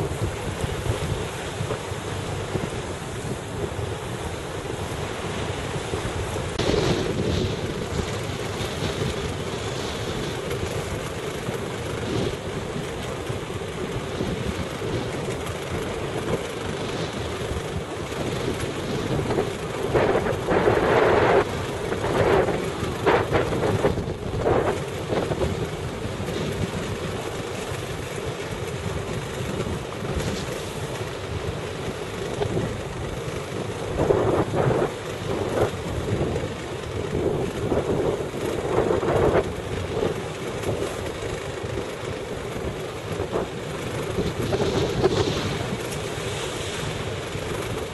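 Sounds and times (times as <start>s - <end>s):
sea noise: 0.0s - 41.6s, 42.2s - 47.9s
wind on microphone: 0.0s - 47.9s.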